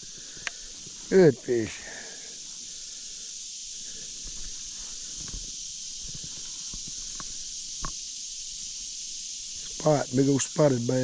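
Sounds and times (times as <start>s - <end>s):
insect chorus hissing: 0.0s - 11.0s.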